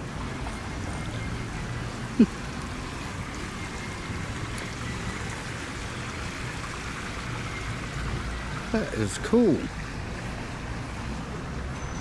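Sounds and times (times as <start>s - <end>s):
fountain splashing: 0.0s - 12.0s.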